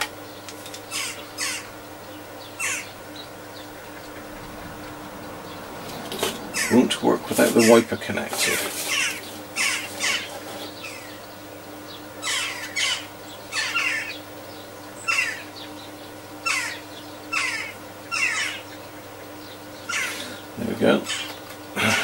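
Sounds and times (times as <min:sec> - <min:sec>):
bird calling harshly: 0:00.8 - 0:11.4, 0:12.2 - 0:14.3, 0:14.9 - 0:22.0.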